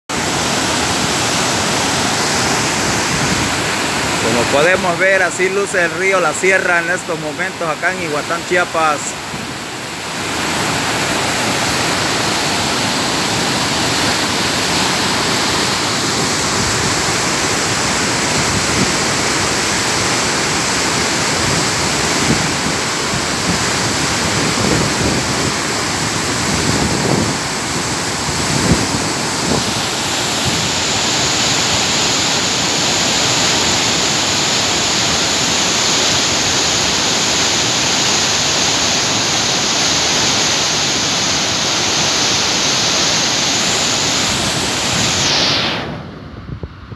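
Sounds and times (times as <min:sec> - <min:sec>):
flooded river roaring: 0:00.1 - 0:46.9.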